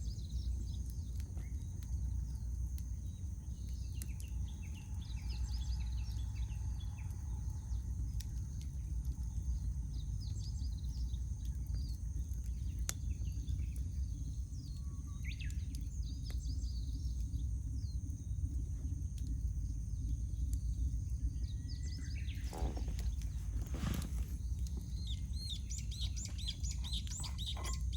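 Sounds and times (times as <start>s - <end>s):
campfire crackling and popping: 0.0s - 27.9s
small birds chirping: 0.0s - 27.9s
low rumble: 2.0s - 27.9s.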